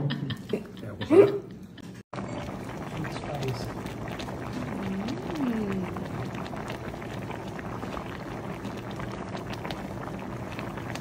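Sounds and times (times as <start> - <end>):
broth boiling in a metal pot: 2.2 - 11.0.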